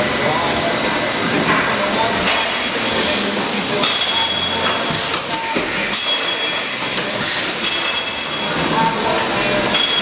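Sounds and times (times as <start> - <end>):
machine mechanical hiss: 0.8 - 9.3.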